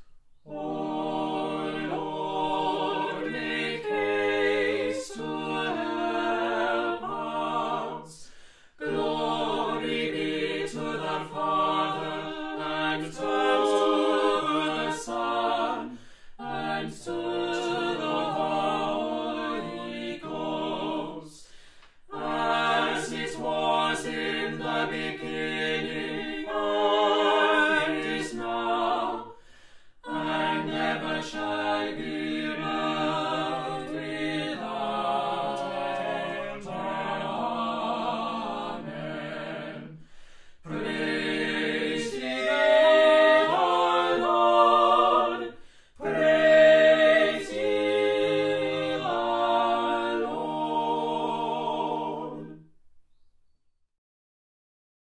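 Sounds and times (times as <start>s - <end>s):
vocal quartet singing in harmony: 0.0s - 52.8s.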